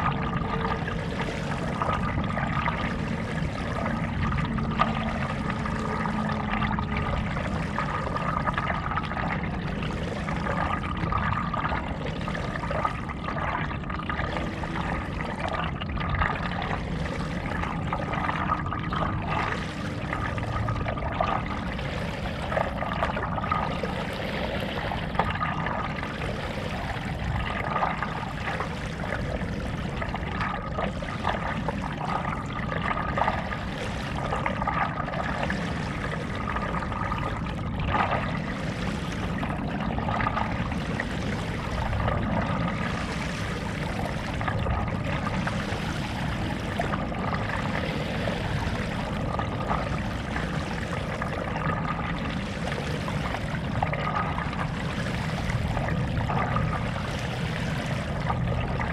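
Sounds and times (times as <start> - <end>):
paddle pulling through water: 0.0 - 58.9
water splashing and trickling: 0.0 - 58.9.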